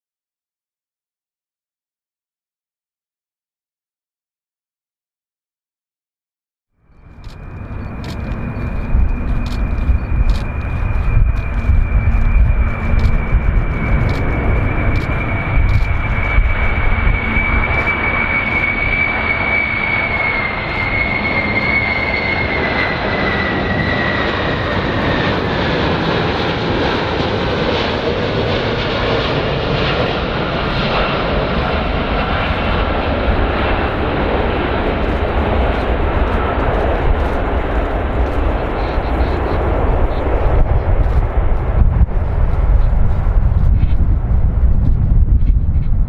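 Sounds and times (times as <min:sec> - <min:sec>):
airplane engines running: 0:06.8 - 0:46.0.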